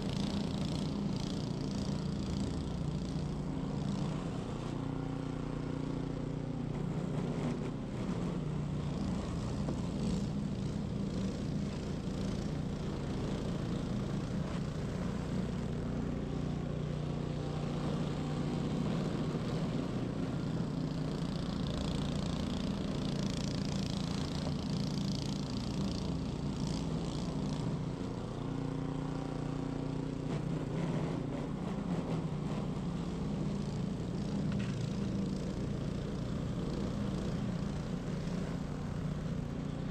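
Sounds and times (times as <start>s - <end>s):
snow blower engine drone: 0.0s - 39.9s.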